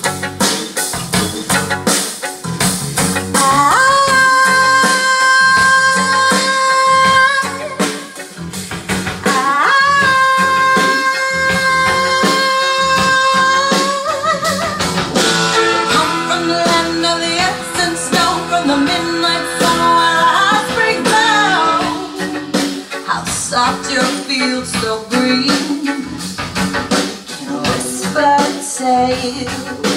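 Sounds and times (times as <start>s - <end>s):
blues rock music with singing: 0.0s - 29.9s.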